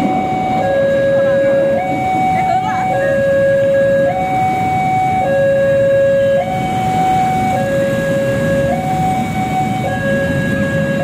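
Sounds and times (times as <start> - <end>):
motorbike engines: 0.0 - 11.0
two-tone crossing alarm: 0.0 - 11.0.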